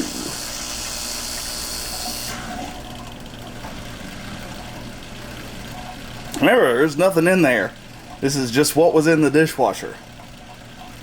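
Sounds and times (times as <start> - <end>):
dishwasher pump humming: 0.0 - 11.0.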